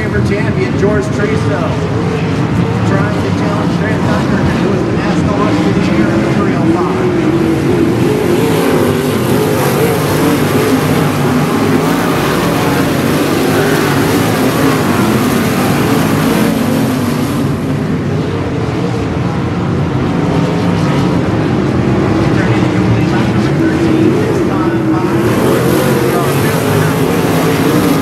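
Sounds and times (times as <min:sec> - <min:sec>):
racing car engines roaring: 0:00.0 - 0:28.0.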